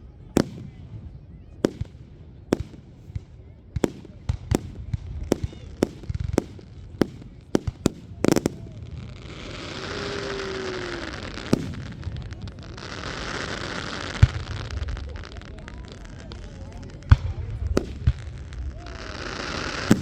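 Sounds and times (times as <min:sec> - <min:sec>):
fireworks bangs: 0:00.3 - 0:20.0
fireworks crackling hiss: 0:03.8 - 0:20.0.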